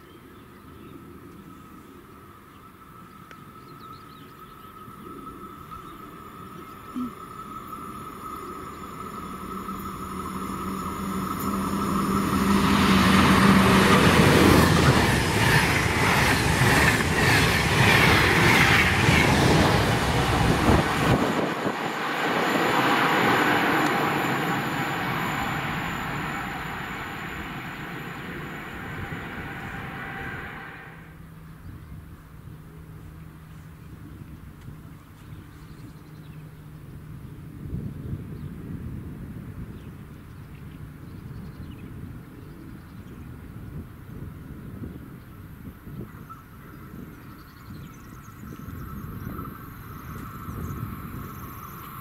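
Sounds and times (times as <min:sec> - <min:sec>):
train passing at speed: 0:00.6 - 0:33.5, 0:36.1 - 0:52.0
wheels rushing on rails: 0:01.1 - 0:52.0.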